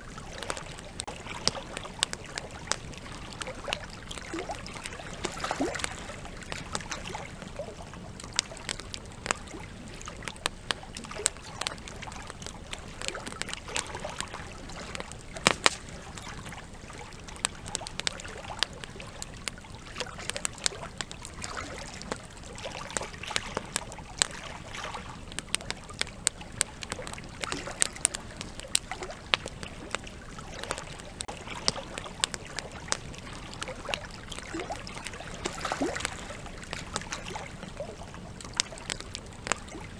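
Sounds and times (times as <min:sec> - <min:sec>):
campfire wood crackling and popping: 0:00.0 - 0:39.9
river water flowing: 0:00.0 - 0:39.9.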